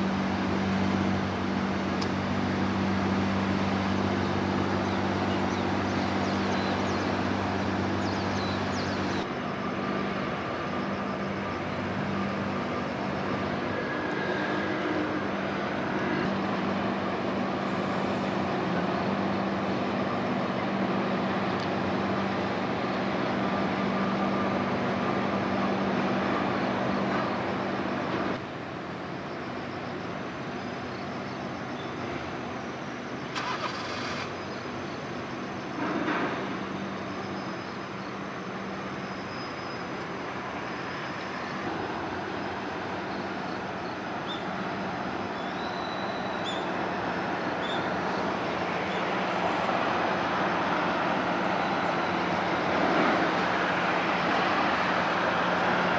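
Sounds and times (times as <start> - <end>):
ship diesel engine drone: 0.0 - 55.9.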